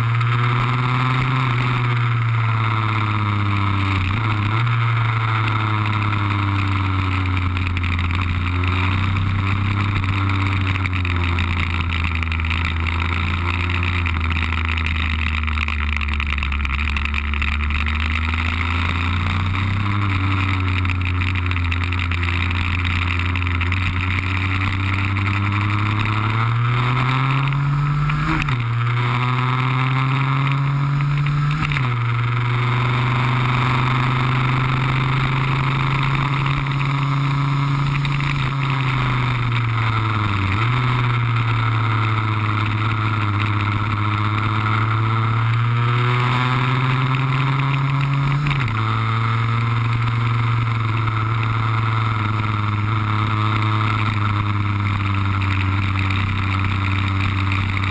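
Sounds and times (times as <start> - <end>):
two-stroke scooter engine revving: 0.0 - 57.9.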